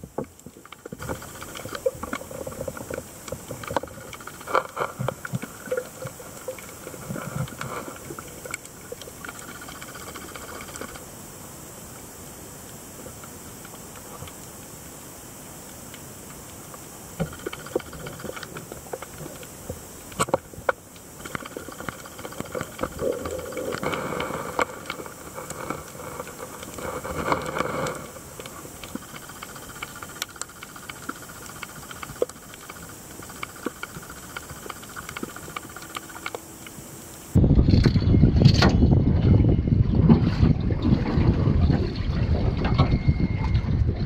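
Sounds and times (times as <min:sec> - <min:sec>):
humming drone: 0:00.0 - 0:44.0
underwater hiss: 0:00.2 - 0:37.4.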